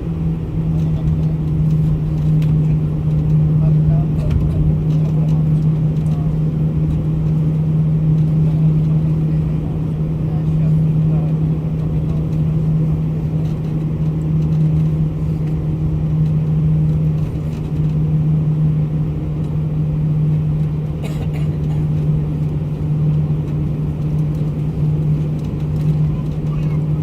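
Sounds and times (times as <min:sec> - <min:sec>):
airliner cabin engine drone: 0:00.0 - 0:27.0.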